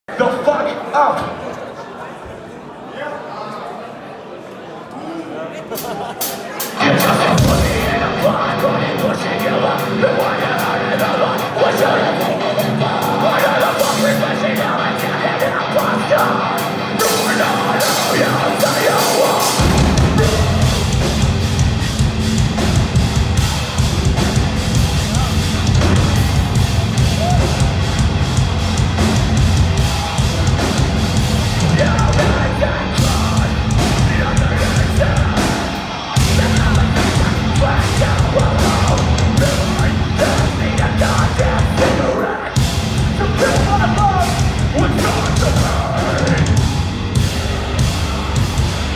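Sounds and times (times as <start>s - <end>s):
vocals: 0.0s - 2.2s, 4.8s - 48.9s
drums: 5.6s - 48.9s
metalcore band playing: 5.7s - 48.9s.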